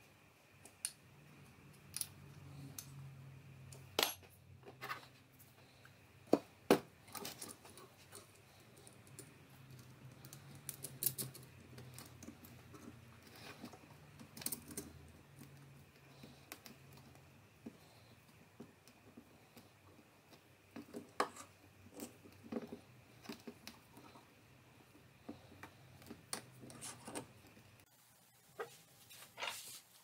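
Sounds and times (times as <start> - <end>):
small parts clicking and tapping: 0.5 - 27.9.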